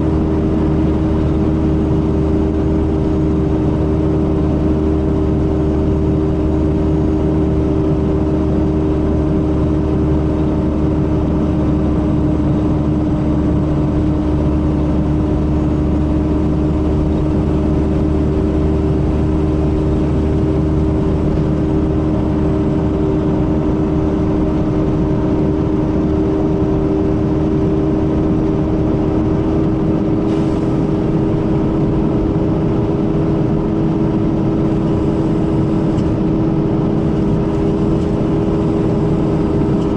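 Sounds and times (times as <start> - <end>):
coach diesel engine running: 0.0 - 39.9.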